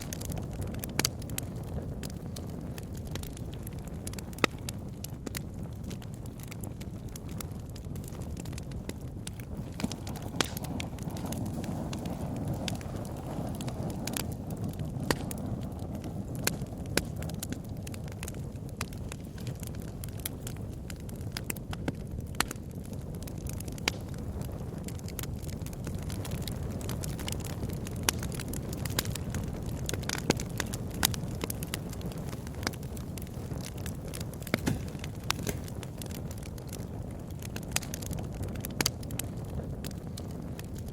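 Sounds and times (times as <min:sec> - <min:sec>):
bonfire crackling and popping: 0:00.0 - 0:40.9.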